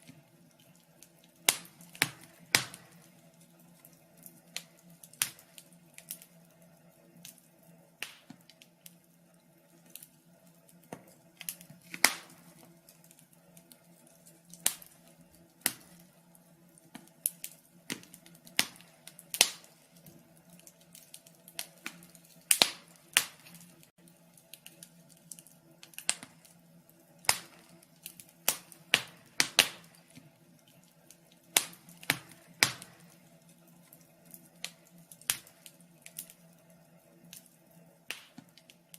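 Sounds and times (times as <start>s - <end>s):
faint steady low hum: 0.0s - 38.9s
fire crackling: 0.0s - 38.9s.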